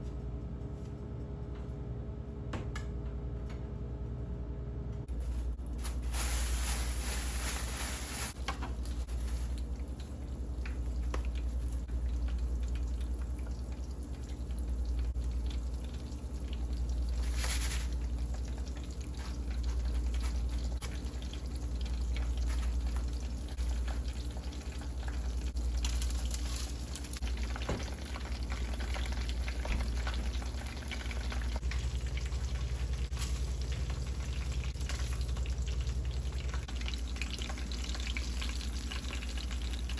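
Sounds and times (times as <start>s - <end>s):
steady low hum: 0.0s - 39.9s
food frying in oil: 5.3s - 39.9s.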